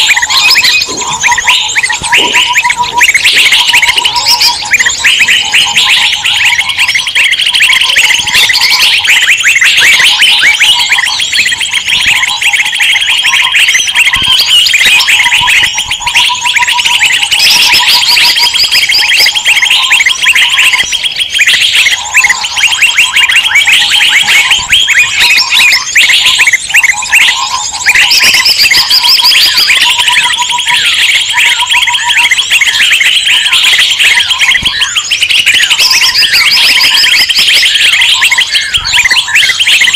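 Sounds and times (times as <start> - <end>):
low bird trill: 0.0 - 39.9
songbirds chirping and chattering: 0.0 - 39.9.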